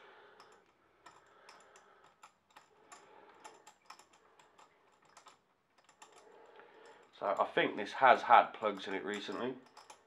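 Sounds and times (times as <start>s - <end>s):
faint metal tool clicks: 0.3s - 7.7s, 8.6s - 10.0s.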